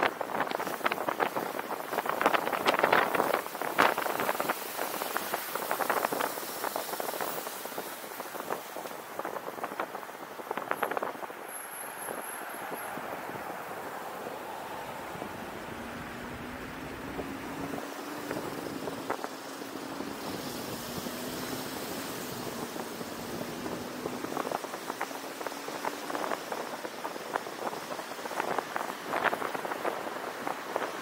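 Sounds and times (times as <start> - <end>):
car tyre and wind noise: 0.0 - 31.0.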